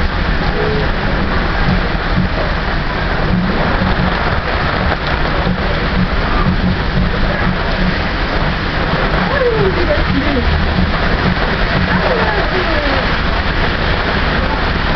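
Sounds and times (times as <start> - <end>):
heavy rain falling: 0.0 - 14.9
low continuous rumble: 0.0 - 14.9.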